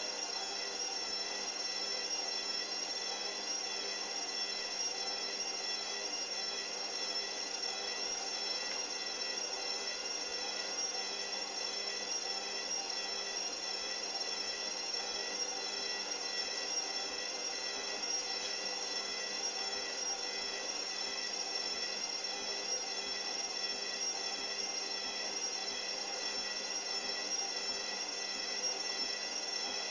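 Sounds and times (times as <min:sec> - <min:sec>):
washing machine spinning whine: 0:00.0 - 0:29.9.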